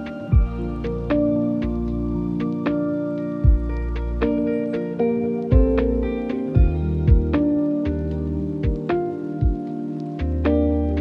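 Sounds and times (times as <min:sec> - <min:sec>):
low bass: 0:00.0 - 0:11.0
plucked notes: 0:00.0 - 0:11.0.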